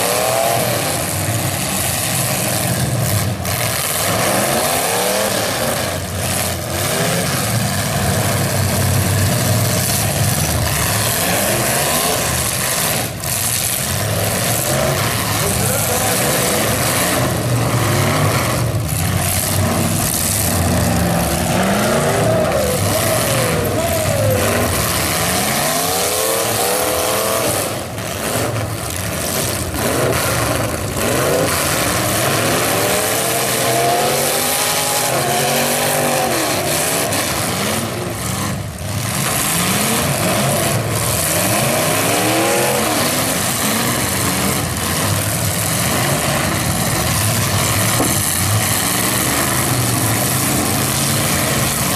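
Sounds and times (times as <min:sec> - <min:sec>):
car engines revving hard: 0:00.0 - 0:51.9.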